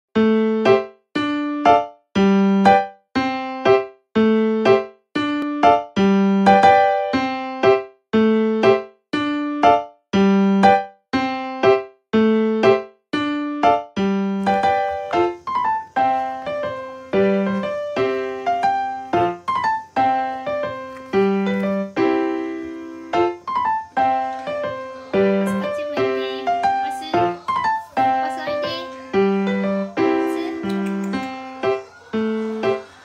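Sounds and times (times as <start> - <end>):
light keyboard tune: 0.2 - 33.0.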